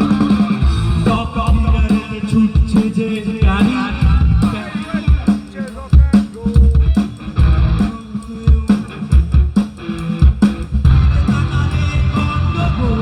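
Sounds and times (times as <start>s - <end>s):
bass guitar: 0.0s - 13.0s
drum kit kick beat: 0.0s - 13.0s
electric guitar: 0.0s - 13.0s.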